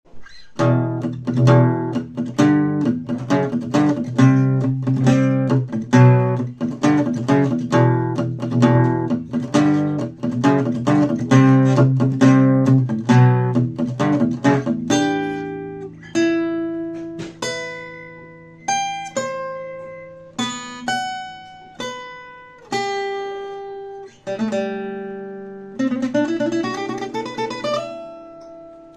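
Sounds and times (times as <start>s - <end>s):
acoustic guitar strumming: 0.1s - 28.9s
guitar picked lead melody: 0.1s - 28.9s.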